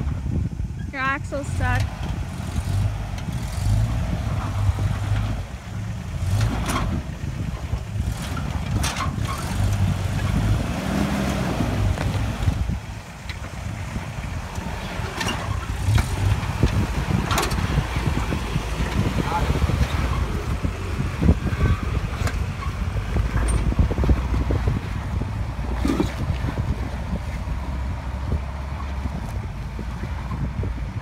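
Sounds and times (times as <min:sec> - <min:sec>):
truck engine running low: 0:00.0 - 0:31.0.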